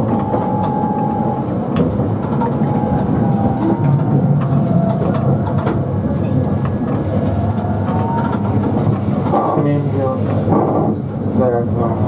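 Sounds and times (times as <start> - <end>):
steady whine: 0.0 - 10.9
streetcar rumble: 0.0 - 12.0.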